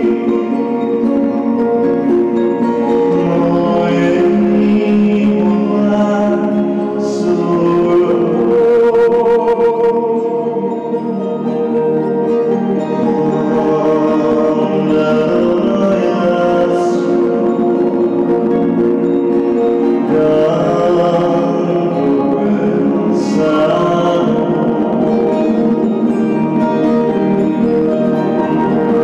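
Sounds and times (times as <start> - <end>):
layered singing voices: 0.0 - 29.0
slow music of long held notes: 0.0 - 29.0.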